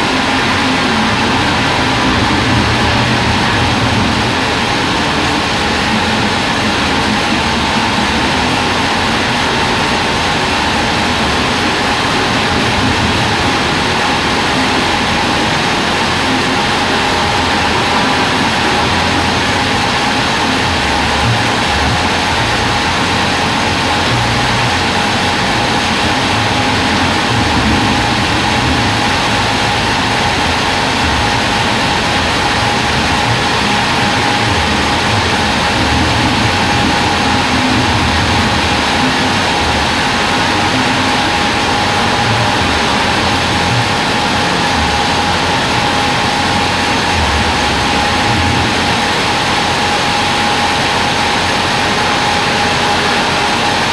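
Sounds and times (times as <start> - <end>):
uneven low rumble: 0.0 - 49.2
band sawmill drone: 0.0 - 53.9
high saw whine: 0.0 - 53.9.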